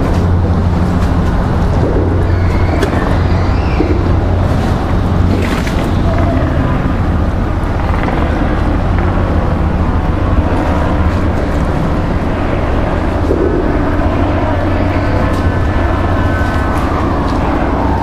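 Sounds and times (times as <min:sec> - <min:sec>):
constant wash of noise: 0:00.0 - 0:18.0
low engine rumble: 0:00.0 - 0:18.0.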